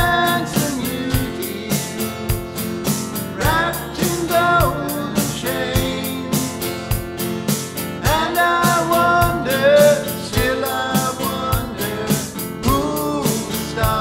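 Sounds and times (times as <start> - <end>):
person singing: 0.0 - 6.9, 8.0 - 14.0
country-rock song: 0.0 - 14.0.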